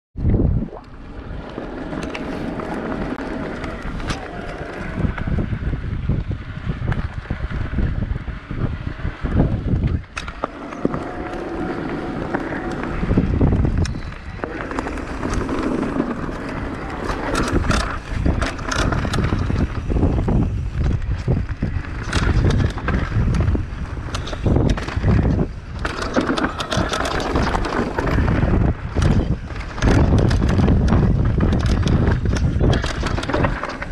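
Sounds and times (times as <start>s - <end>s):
wind buffeting microphone: 0.2s - 33.9s
bike tyres rushing on dirt: 1.0s - 33.9s
bike chain and frame rattling: 1.3s - 33.9s.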